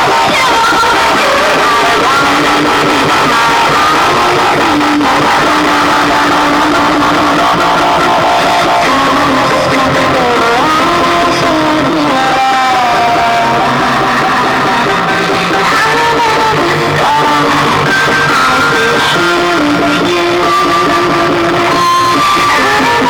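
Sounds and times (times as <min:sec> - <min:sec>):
loud rock music with guitar: 0:00.0 - 0:23.0.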